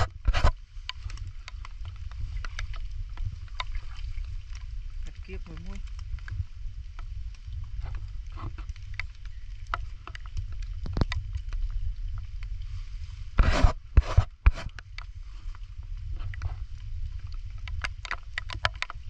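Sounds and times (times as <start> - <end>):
ticks and scrapes of handling: 0.0 - 4.6, 7.7 - 11.8, 12.4 - 19.0
wind rumble on microphone: 0.0 - 19.0
light rain ticking: 0.6 - 13.3, 14.7 - 19.0.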